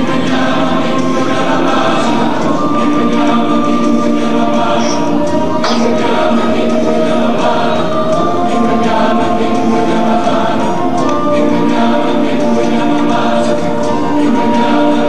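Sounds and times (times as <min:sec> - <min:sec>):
choir singing held chords: 0:00.0 - 0:15.0
instrumental accompaniment: 0:00.0 - 0:15.0.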